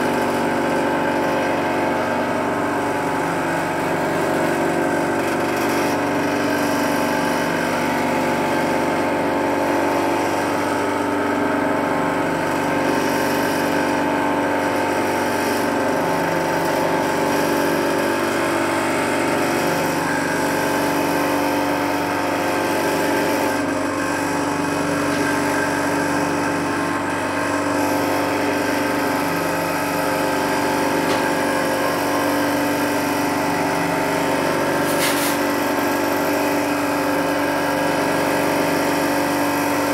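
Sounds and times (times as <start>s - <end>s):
winding machine motor whirring: 0.0s - 39.9s.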